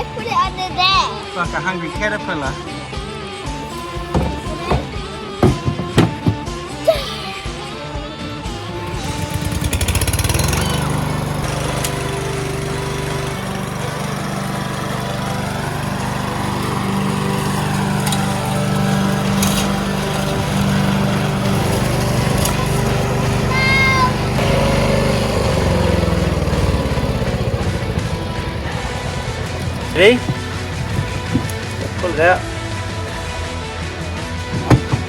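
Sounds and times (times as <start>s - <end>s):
lawn mower engine running: 3.4s - 6.9s, 7.5s - 35.0s.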